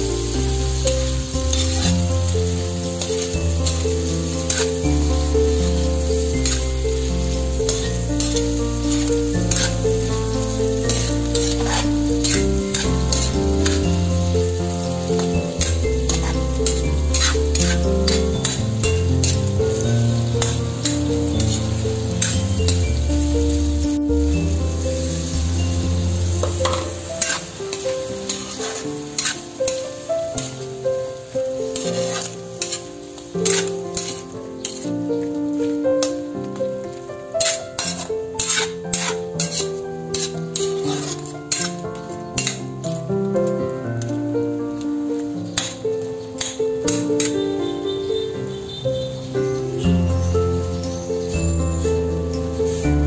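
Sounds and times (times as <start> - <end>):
metal spatula scraping wok: 0.0 - 44.2, 45.2 - 53.0
background music: 0.0 - 53.0
shrimp sizzling in butter: 0.0 - 53.0.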